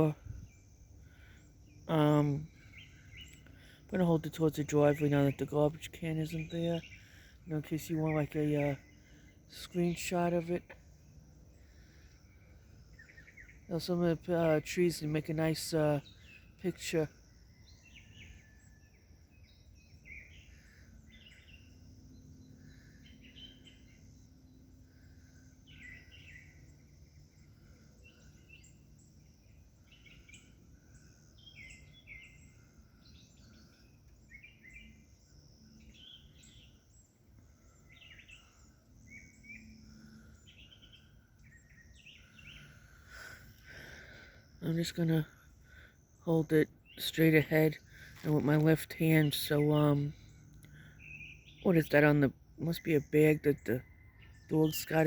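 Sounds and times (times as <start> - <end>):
faint birds chirping: 0.0 - 55.0
low steady background noise: 0.0 - 55.0.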